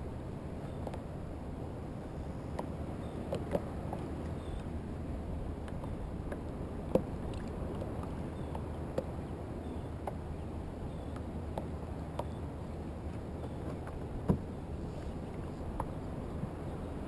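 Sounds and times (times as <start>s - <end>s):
small waves lapping against kayak hull: 1.9s - 17.0s.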